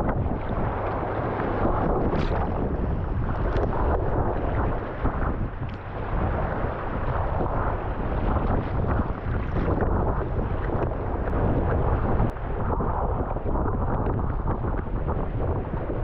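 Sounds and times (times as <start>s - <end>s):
rough sea water washing: 0.0s - 16.0s
wind buffeting microphone: 0.0s - 16.0s.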